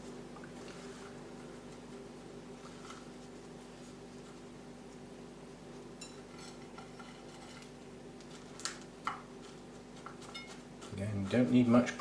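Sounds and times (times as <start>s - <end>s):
rustling of bark potting media: 0.0s - 5.0s, 6.9s - 12.0s
steady low hum: 0.0s - 12.0s.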